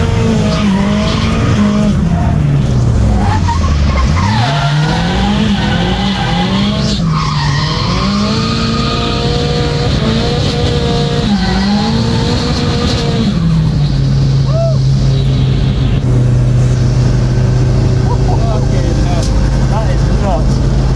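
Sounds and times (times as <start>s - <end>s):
car engine revving hard: 0.0s - 20.9s
tyres skidding and squealing: 0.0s - 20.9s.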